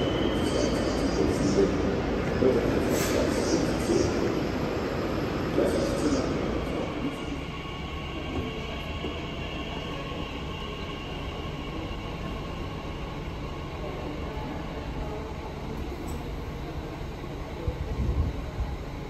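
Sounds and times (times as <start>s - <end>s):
train rolling rumble: 0.0s - 19.0s.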